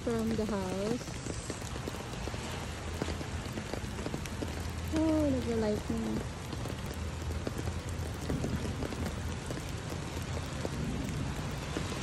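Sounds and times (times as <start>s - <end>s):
rain on pavement: 0.0s - 12.0s.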